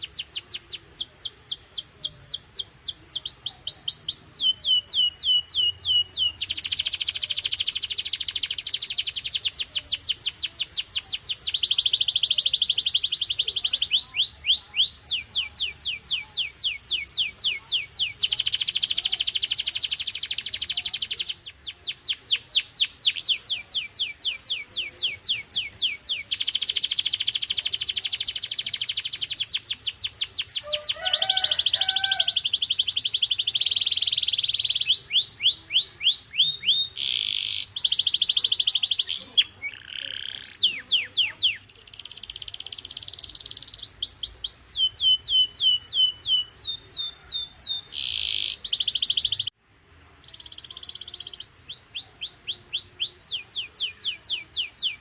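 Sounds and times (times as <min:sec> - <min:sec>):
canary singing: 0:00.0 - 0:49.6, 0:50.2 - 0:55.0.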